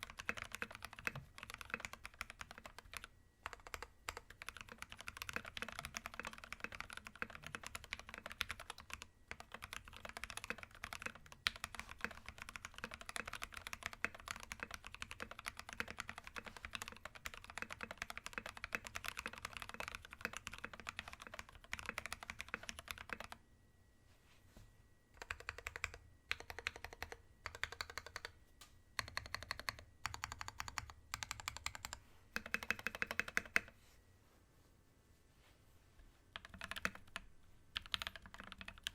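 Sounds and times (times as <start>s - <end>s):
mechanical keyboard typing: 0.0s - 23.4s, 25.2s - 28.3s, 29.0s - 33.7s, 36.3s - 38.9s.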